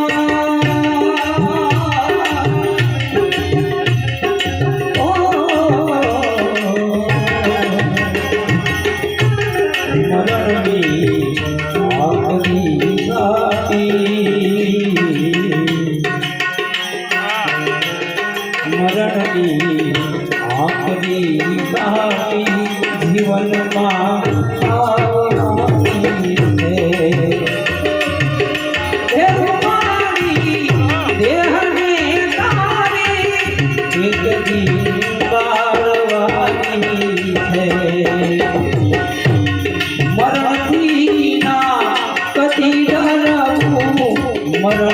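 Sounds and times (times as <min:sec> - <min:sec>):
instrumental melody: 0:00.0 - 0:44.9
tabla rhythm: 0:00.0 - 0:44.9.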